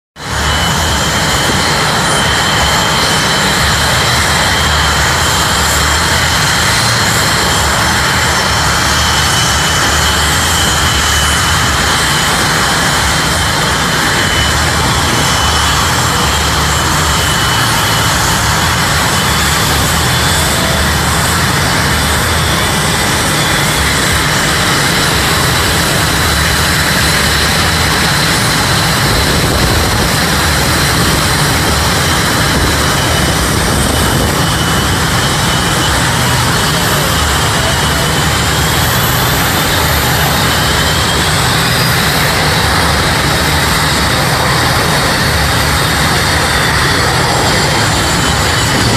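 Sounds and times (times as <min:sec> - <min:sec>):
high-pitched turbine whine: 0:00.2 - 0:48.9
jet engines rushing: 0:00.2 - 0:48.9.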